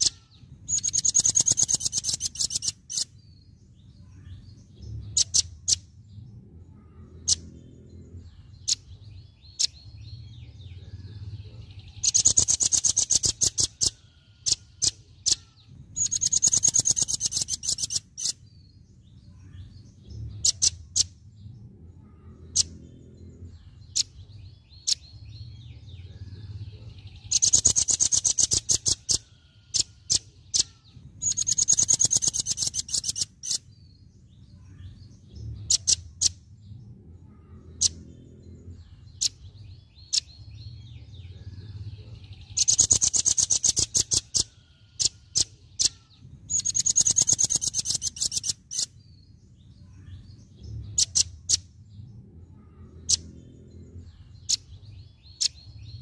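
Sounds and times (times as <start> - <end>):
bird song rapid sharp notes: 0.0 - 56.0.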